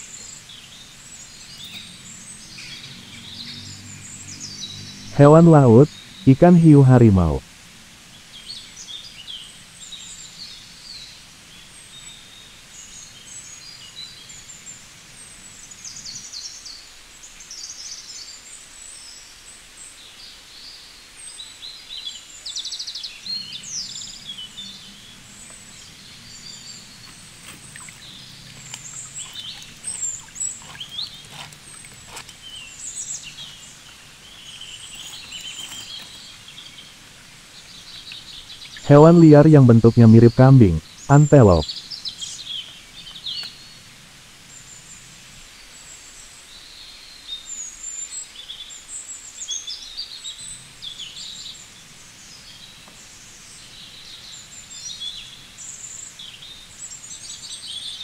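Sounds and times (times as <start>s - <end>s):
small birds chirping: 0.0s - 6.3s, 8.1s - 58.0s.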